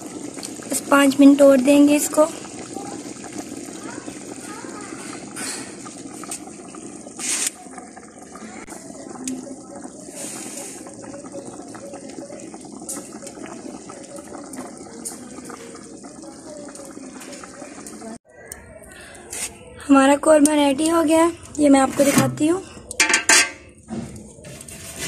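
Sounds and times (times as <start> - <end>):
food bubbling in a pot: 0.0 - 25.0.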